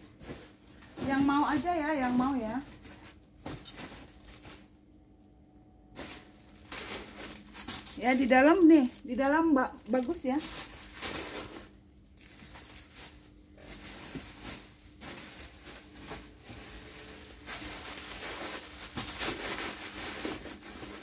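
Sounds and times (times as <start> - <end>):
plastic wrapping rustling: 0.0 - 4.8, 5.9 - 21.0
faint steady hum: 0.0 - 21.0.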